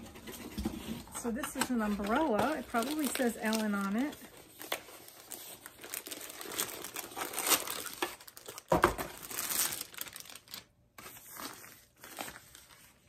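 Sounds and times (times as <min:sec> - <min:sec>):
plastic packaging crinkling: 0:01.2 - 0:13.0.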